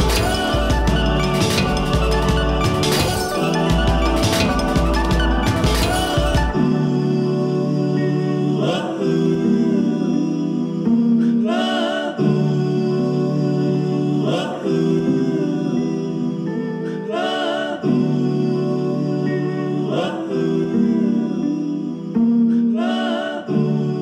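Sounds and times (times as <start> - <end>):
song with singing over chords: 0.0 - 24.0.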